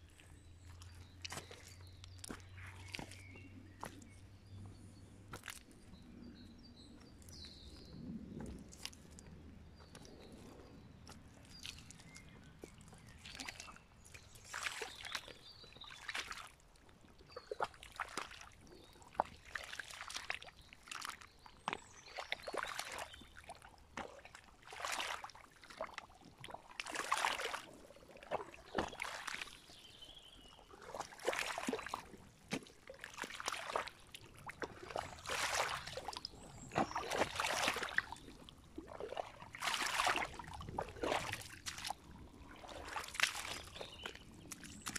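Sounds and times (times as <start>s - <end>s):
boots squelching through mud: 0.0s - 6.1s, 7.0s - 16.6s, 17.3s - 44.9s.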